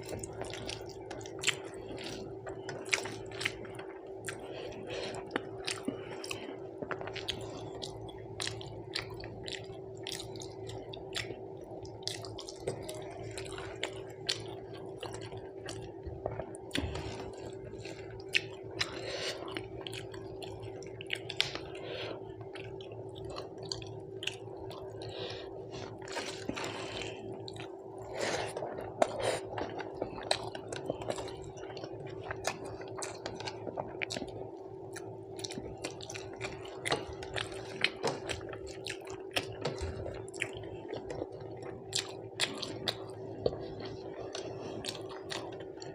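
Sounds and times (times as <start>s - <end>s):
wet chewing and lip smacks: 0.0s - 21.8s, 26.0s - 45.9s
steady hum: 0.0s - 45.9s.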